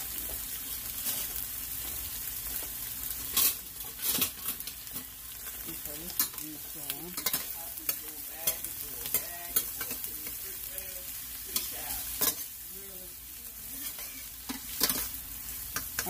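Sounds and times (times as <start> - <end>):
vegetables sizzling in pot: 0.0 - 16.0.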